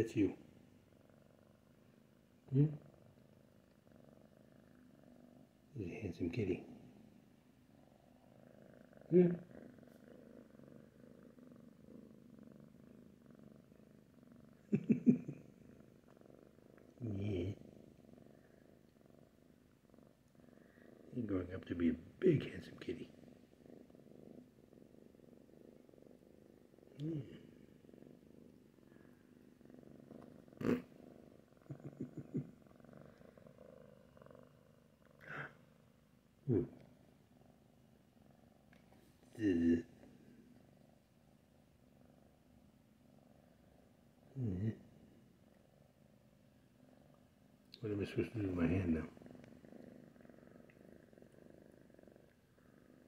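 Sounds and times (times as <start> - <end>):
kitten purring: 0.0 - 53.0.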